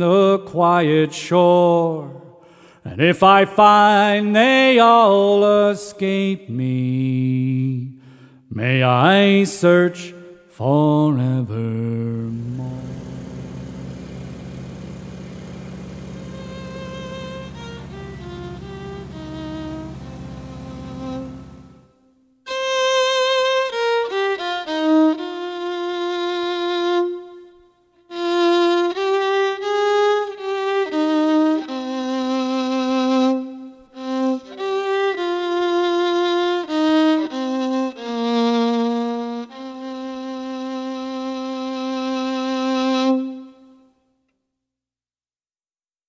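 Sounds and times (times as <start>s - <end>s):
solo fiddle slow melody: 3.3s - 44.0s.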